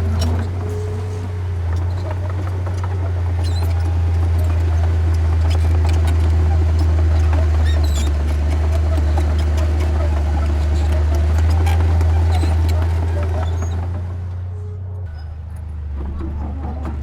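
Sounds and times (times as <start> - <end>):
heavy diesel engine droning: 0.0 - 17.0.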